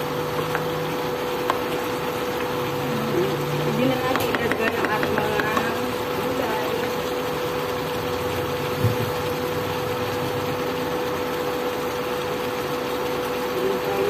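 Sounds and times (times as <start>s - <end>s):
even hiss of cooking: 0.0s - 14.0s
induction cooktop hum: 0.0s - 14.0s.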